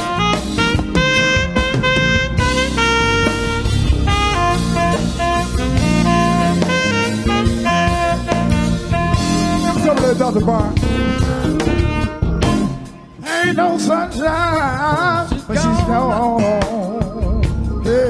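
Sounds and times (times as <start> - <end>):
saxophone melody: 0.0 - 16.7
live band with drum kit: 0.0 - 18.0.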